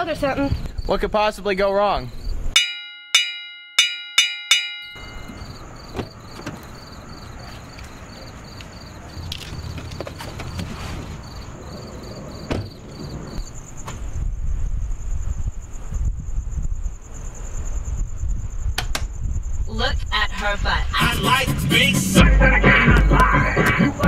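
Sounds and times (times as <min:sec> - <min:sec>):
crickets chirping: 0:00.0 - 0:21.7.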